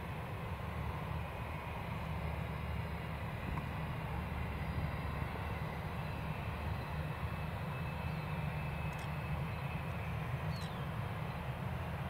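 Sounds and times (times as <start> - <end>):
faint high engine whine: 0.0 - 12.0
jet engines rumbling: 0.0 - 12.0.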